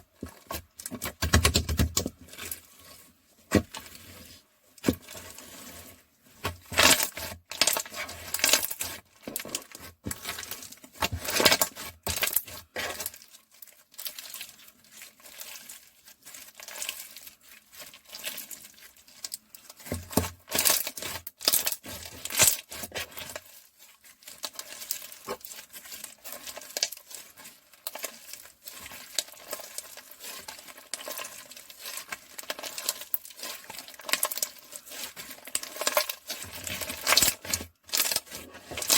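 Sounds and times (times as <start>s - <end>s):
slime crackling and popping: 6.7s - 38.9s.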